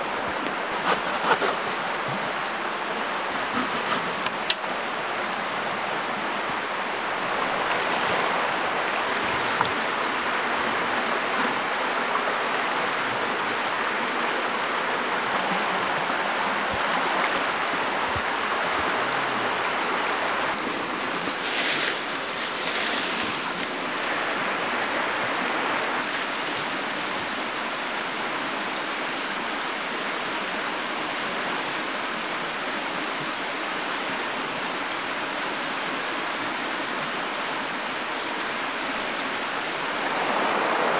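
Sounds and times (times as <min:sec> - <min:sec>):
rustle: 0:00.0 - 0:40.9
stream water rushing: 0:00.0 - 0:40.9.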